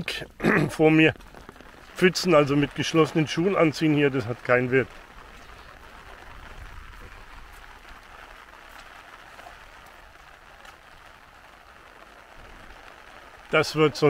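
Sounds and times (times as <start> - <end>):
light rain hissing: 0.0 - 14.0.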